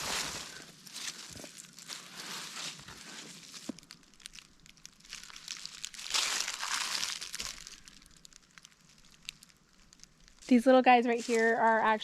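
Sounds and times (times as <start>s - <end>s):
dry vegetation rustling: 0.0s - 12.0s
small crackles: 0.0s - 12.0s.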